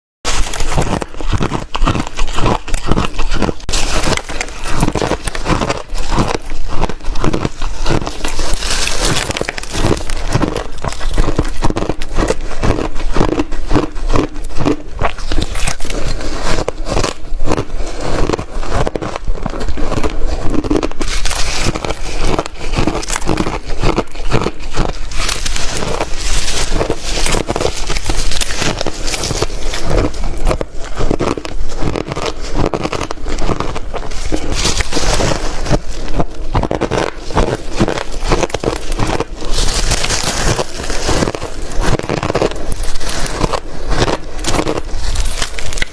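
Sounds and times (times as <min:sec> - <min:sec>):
ice being chewed: 0:00.3 - 0:45.9.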